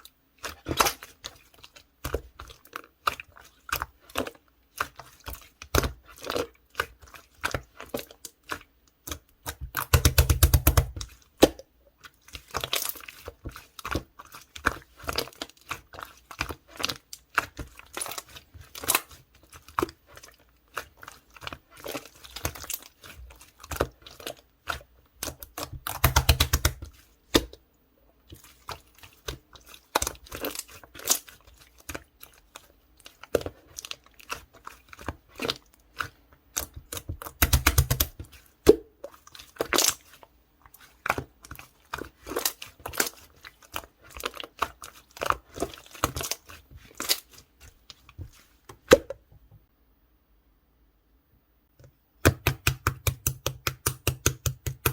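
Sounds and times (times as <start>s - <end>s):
slime squished by hand: 0.4s - 27.6s, 28.3s - 49.2s.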